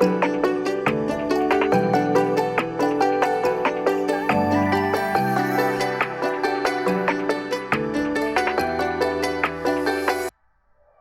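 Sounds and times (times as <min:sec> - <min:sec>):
instrumental music through headphones: 0:00.0 - 0:10.3.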